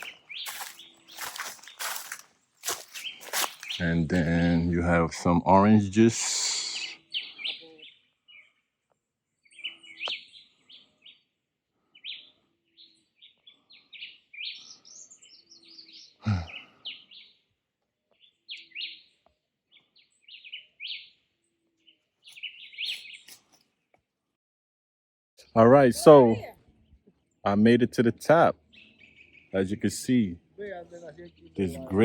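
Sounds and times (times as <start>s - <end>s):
birds chirping: 0.0s - 24.1s, 25.4s - 32.0s.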